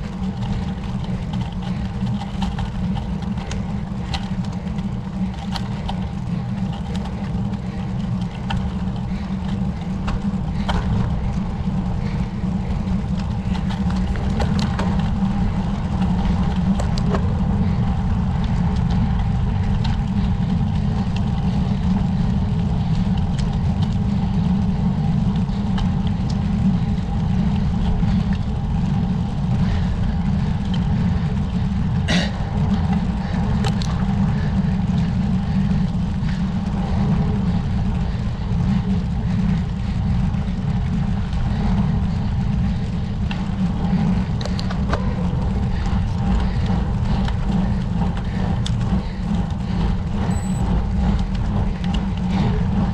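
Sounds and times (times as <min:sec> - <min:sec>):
light ticks: 0:00.0 - 0:11.4, 0:12.2 - 0:31.7, 0:32.6 - 0:45.0, 0:45.7 - 0:52.5
wind and road noise: 0:00.0 - 0:52.9.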